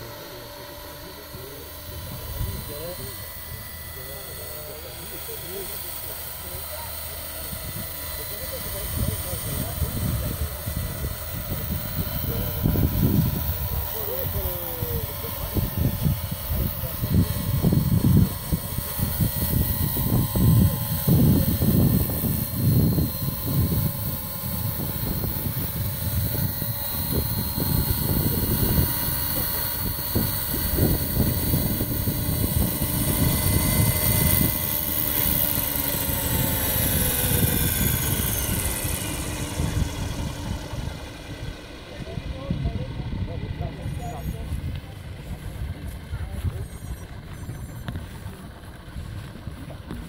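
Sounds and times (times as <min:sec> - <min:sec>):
model helicopter rotor whine: 0:00.0 - 0:50.0.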